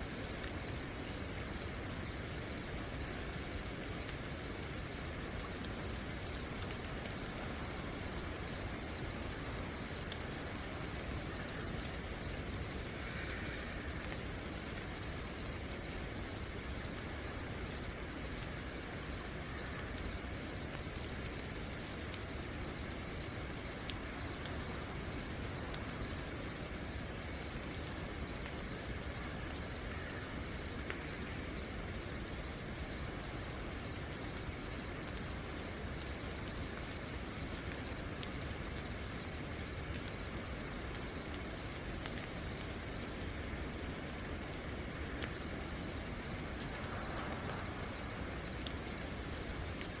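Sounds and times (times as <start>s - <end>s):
cricket trilling: 0.0s - 50.0s
rain hissing: 0.0s - 50.0s.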